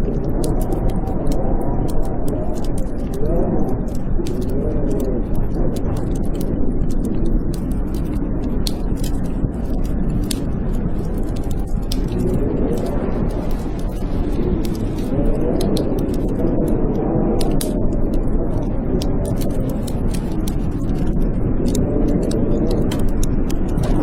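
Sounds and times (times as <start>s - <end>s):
blizzard wind howling: 0.0s - 24.0s
fireplace fire crackling: 0.0s - 24.0s.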